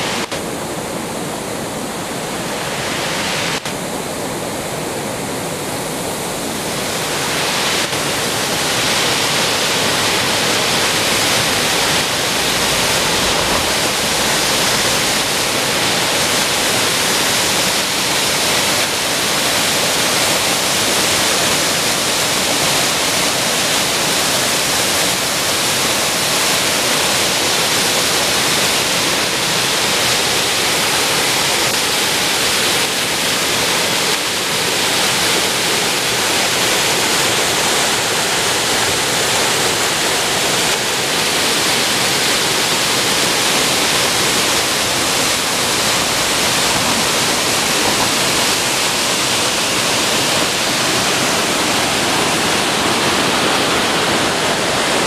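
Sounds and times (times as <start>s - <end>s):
waterfall rushing over boulders: 0.0s - 55.0s.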